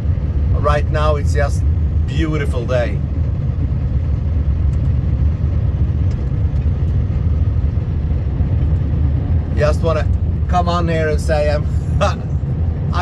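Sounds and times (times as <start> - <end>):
vehicle rumbling on gravel road: 0.0 - 13.0.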